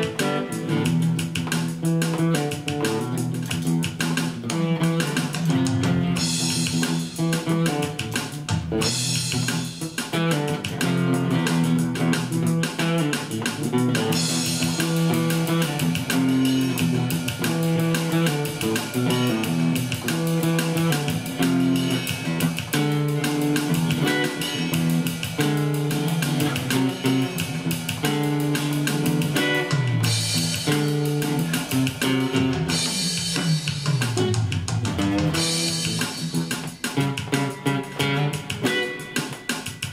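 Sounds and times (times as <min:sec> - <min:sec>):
funk guitar playing: 0:00.0 - 0:39.9.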